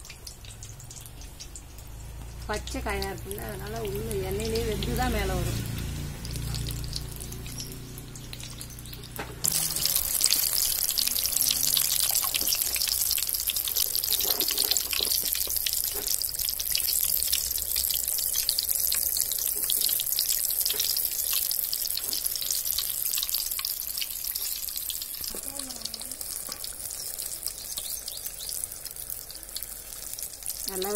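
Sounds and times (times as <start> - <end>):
deep-frying sizzle in oil: 0.0 - 30.9.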